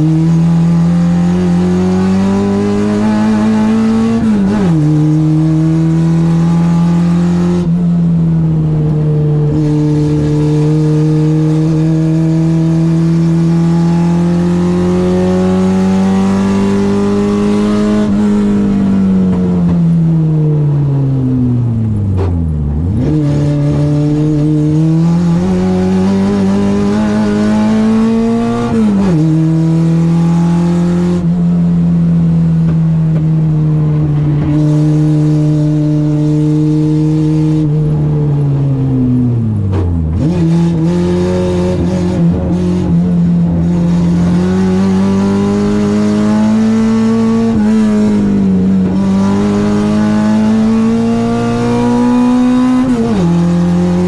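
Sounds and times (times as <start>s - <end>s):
car engine revving on track: 0.0s - 54.0s.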